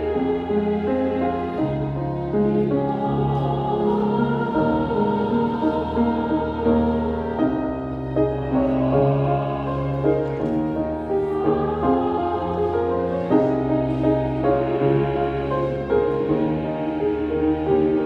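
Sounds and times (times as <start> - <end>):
choir-like chords: 0.0 - 18.0.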